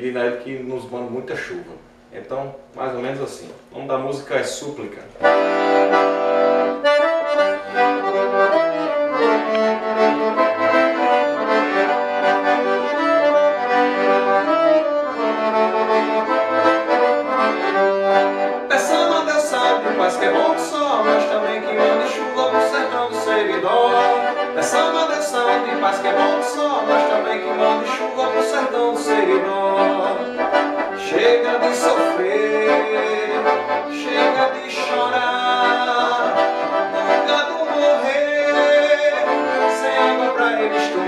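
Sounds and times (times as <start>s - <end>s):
accordion melody over chords: 4.5s - 41.0s.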